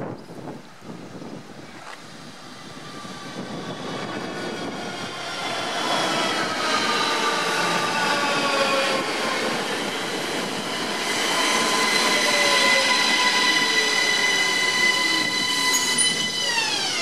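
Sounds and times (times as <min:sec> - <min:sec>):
wheels rumbling on rail: 0:00.0 - 0:17.0
train traction whine: 0:02.3 - 0:17.0.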